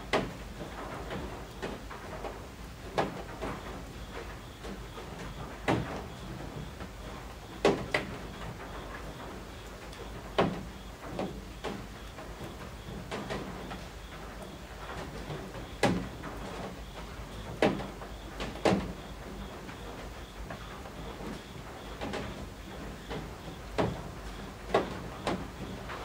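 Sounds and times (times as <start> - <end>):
rain pattering on roof: 0.0 - 26.0.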